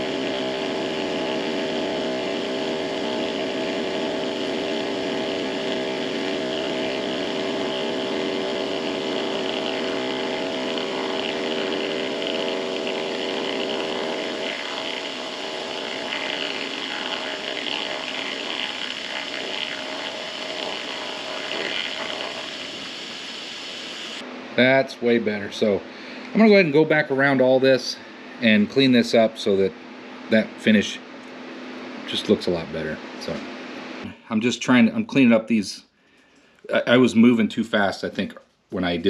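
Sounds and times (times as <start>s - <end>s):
machine tool motor hum: 0.0s - 34.2s.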